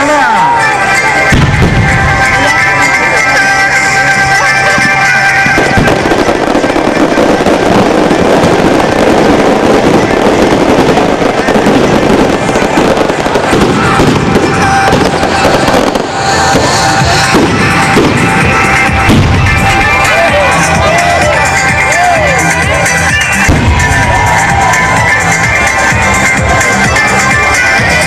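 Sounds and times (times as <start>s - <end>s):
firecrackers crackling: 0.0s - 28.0s
music: 0.0s - 28.0s.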